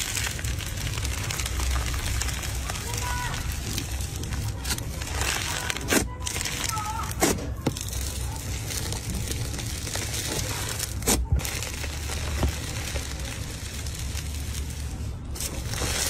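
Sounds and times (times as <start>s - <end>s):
slime squishing and crackling: 0.0s - 16.0s.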